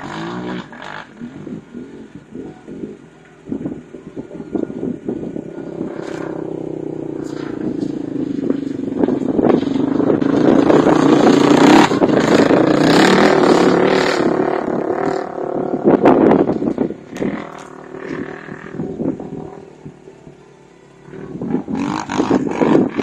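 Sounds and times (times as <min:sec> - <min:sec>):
atv engine revving: 0:00.0 - 0:03.1, 0:04.8 - 0:20.4, 0:21.0 - 0:23.0.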